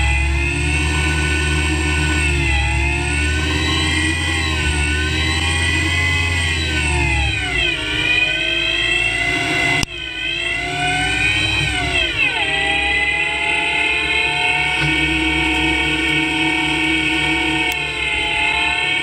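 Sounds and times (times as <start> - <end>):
lathe spindle motor whining: 0.0 - 19.0.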